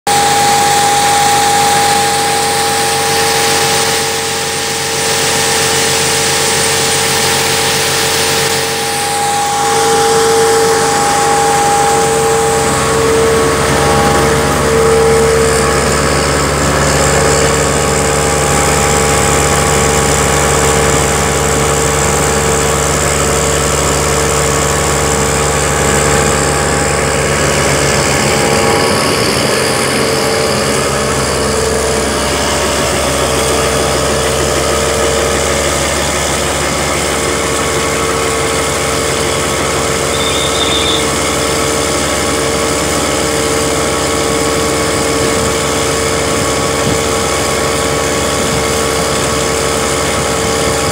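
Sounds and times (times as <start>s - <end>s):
tractor engine: 0.0s - 50.9s
mill grinding grain: 0.1s - 50.9s.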